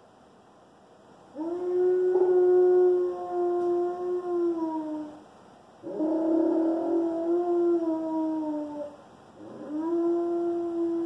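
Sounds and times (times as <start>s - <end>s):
dog howling: 1.3s - 5.2s, 5.8s - 11.0s.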